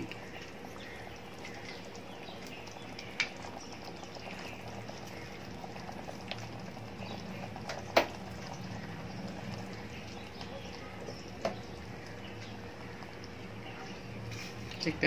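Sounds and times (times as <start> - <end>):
curry bubbling in a pot: 0.0 - 15.0.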